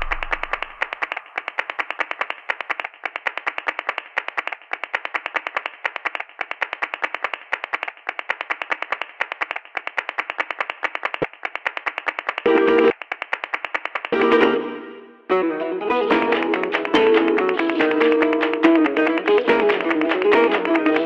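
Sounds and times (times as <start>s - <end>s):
fast rhythmic percussive clicks: 0.0s - 14.2s, 16.1s - 21.0s.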